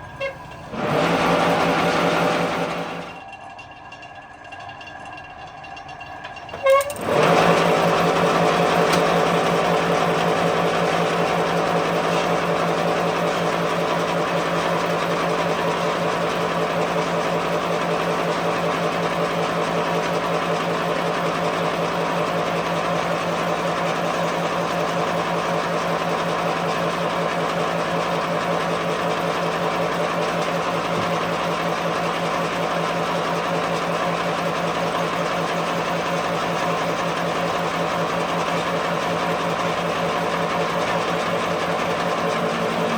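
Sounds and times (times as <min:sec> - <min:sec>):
workshop machine humming: 0:00.0 - 0:03.3, 0:06.0 - 0:42.9.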